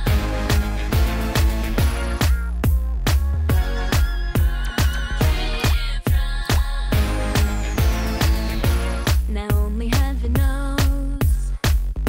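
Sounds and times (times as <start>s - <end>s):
kick drum beat: 0.0s - 12.0s.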